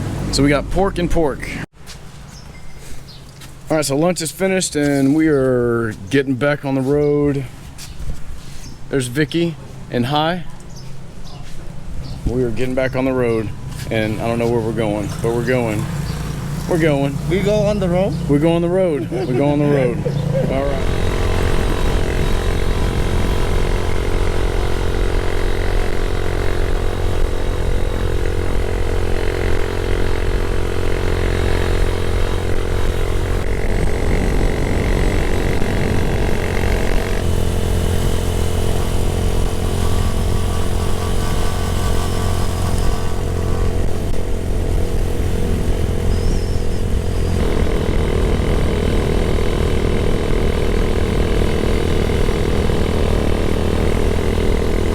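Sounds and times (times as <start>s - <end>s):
motorcycle engine running: 0.0s - 1.7s, 11.9s - 54.9s.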